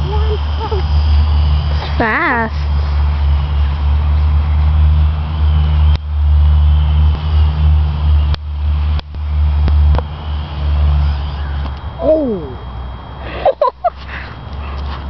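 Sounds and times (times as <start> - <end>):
high motor whine: 0.0 - 15.0
rotor wash rumble: 0.0 - 15.0.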